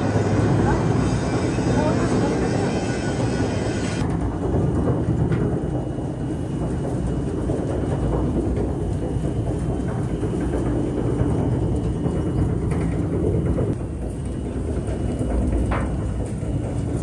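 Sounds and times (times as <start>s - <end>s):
faint steady machine whine: 0.0s - 17.0s
heavy machinery low rumble: 0.0s - 17.0s.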